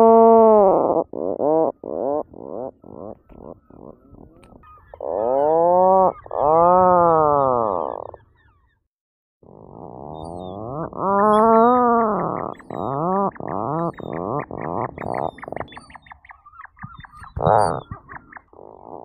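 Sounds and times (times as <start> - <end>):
puffin calling: 0.0 - 8.6, 10.0 - 19.0.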